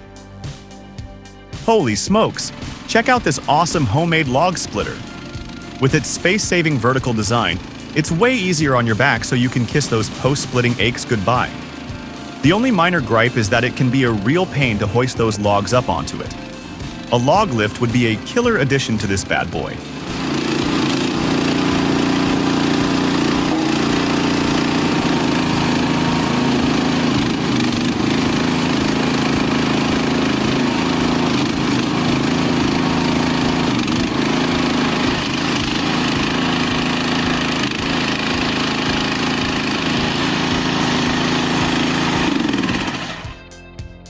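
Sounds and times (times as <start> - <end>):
log splitter engine running: 1.6 - 43.5.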